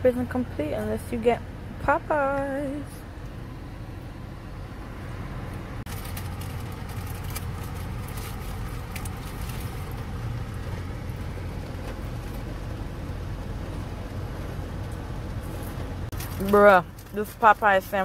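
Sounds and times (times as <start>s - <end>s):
low rumble inside car: 0.0s - 18.0s.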